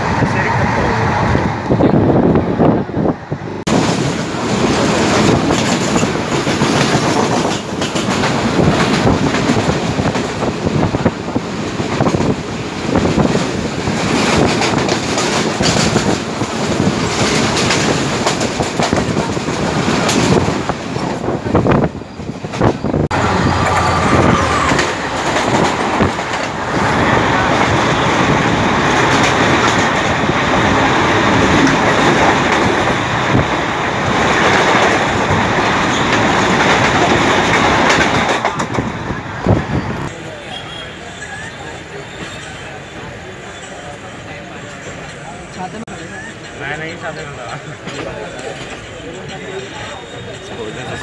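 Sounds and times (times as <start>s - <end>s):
train clickety-clack on rails: 0.0s - 51.0s.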